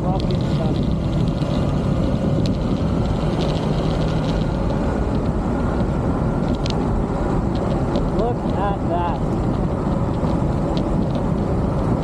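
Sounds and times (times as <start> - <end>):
motorbike engine hum: 0.0 - 12.0.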